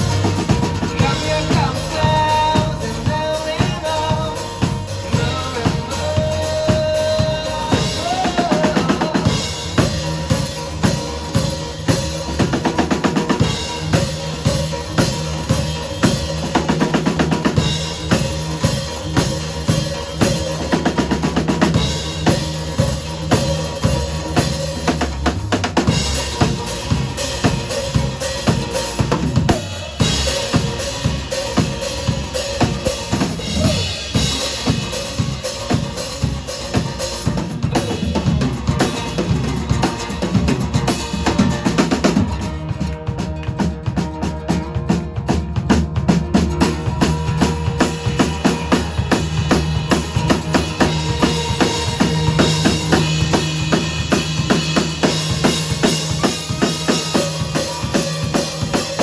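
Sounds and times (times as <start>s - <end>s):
drum kit beat: 0.0s - 59.0s
held bass notes: 0.0s - 59.0s
rock band playing: 0.0s - 59.0s
sustained guitar tones: 0.0s - 59.0s.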